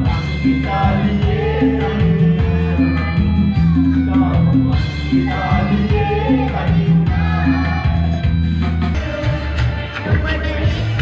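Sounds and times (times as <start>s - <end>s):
karaoke music with bass line: 0.0s - 11.0s
person singing into microphone: 0.0s - 11.0s.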